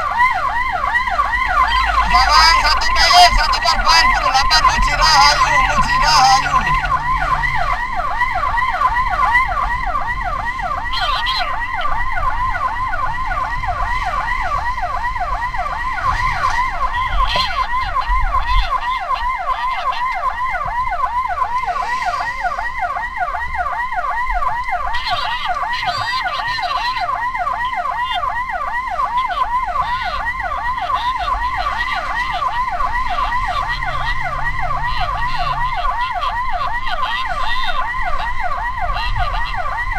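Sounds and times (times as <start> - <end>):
ambulance siren yelping: 0.0 - 39.9
vehicle rumble: 0.0 - 39.9.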